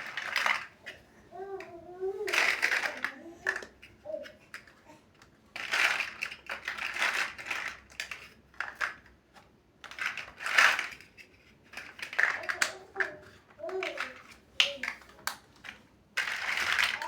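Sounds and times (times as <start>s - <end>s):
plastic building bricks rattling: 0.0s - 4.8s, 5.5s - 9.2s, 9.8s - 17.0s.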